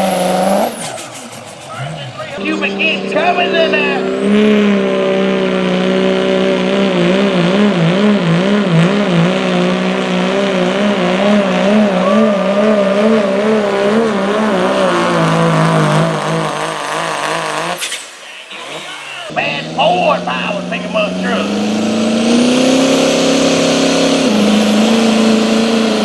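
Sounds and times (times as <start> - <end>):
diesel engine at full throttle: 0.0 - 26.0.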